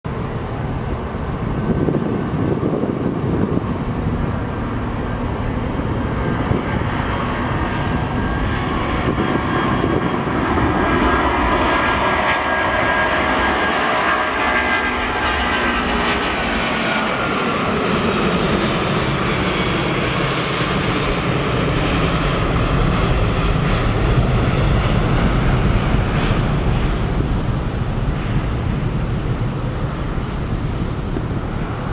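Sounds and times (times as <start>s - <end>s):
high jet whine: 0.0s - 31.9s
jet engine roar: 0.1s - 31.9s.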